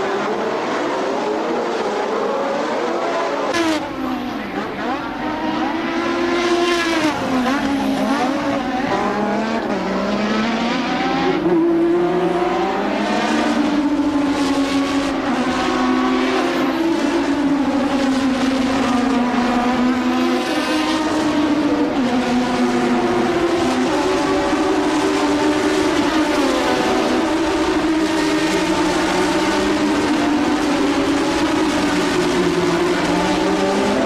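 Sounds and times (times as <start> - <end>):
race car engine at high revs: 0.0 - 34.0.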